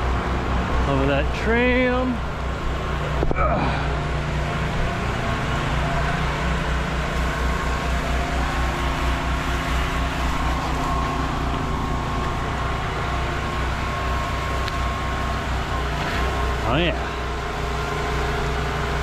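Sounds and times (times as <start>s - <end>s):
pressure washer engine running: 0.0s - 19.0s.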